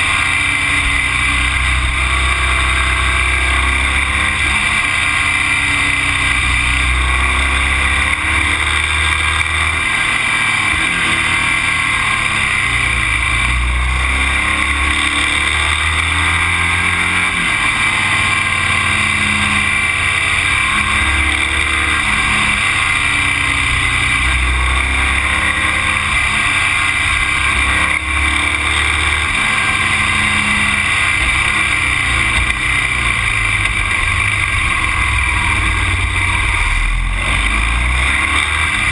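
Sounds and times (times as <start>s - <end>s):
vehicle engine running: 0.0s - 38.9s
wind and road noise: 0.0s - 38.9s.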